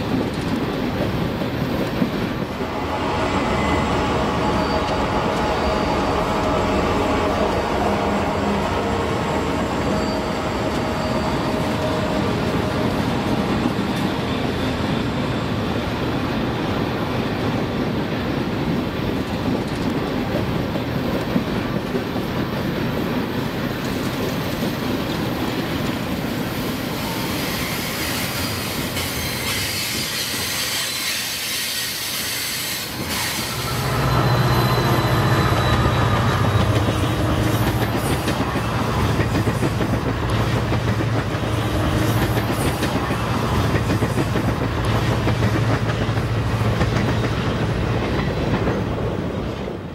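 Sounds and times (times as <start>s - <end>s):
train wheels clicking and squealing: 0.0s - 7.8s, 8.8s - 16.2s, 19.1s - 48.8s.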